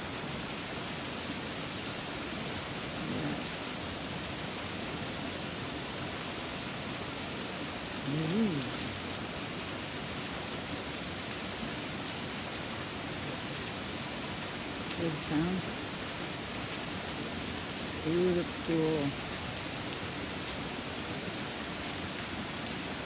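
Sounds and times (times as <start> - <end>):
meltwater pouring down waterfall: 0.0 - 23.0.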